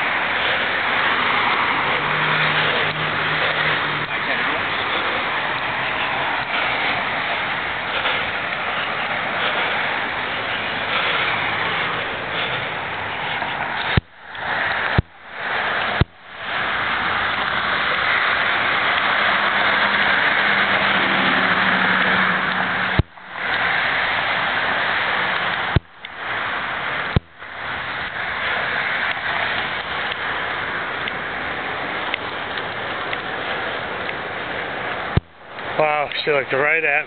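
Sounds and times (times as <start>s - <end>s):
city street traffic hiss: 0.0s - 37.0s
vehicle passing with low engine: 0.0s - 37.0s.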